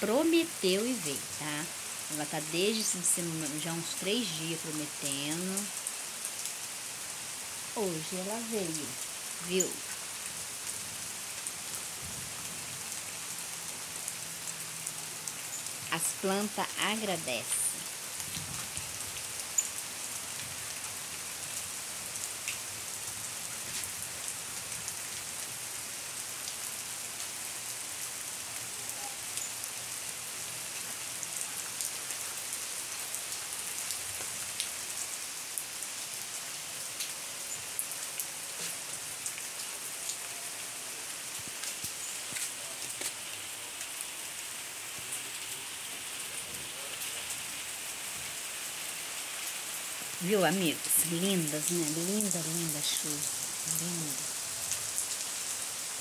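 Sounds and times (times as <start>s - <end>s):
raindrops ticking on surfaces: 0.0s - 56.0s
steady rain hiss: 0.0s - 56.0s.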